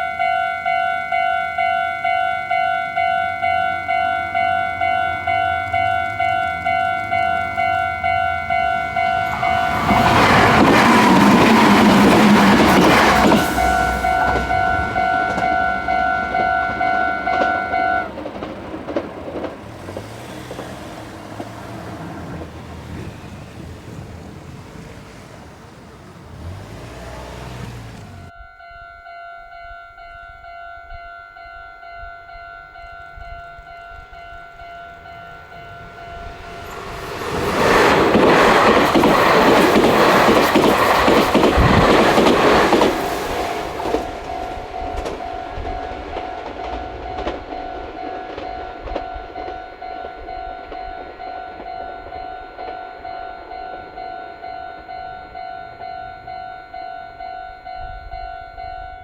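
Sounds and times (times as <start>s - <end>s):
train passing: 0.0s - 28.7s, 29.6s - 59.0s
level crossing warning bell ringing: 0.0s - 59.0s.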